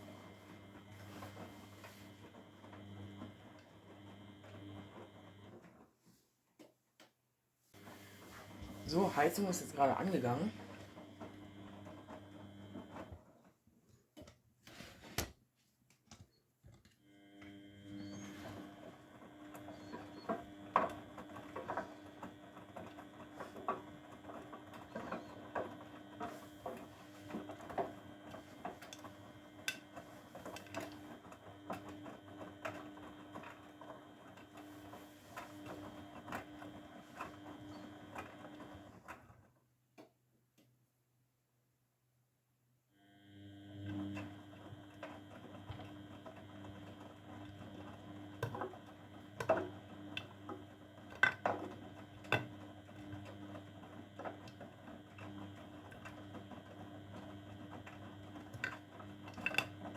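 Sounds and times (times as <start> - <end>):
washing machine drum motor hum: 0.0 - 5.8, 7.8 - 13.4, 17.1 - 39.2, 43.1 - 59.9.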